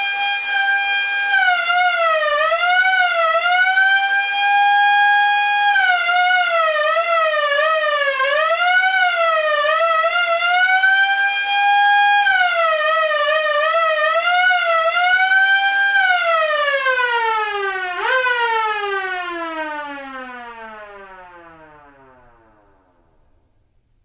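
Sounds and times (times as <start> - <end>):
police siren wailing: 0.0 - 22.8.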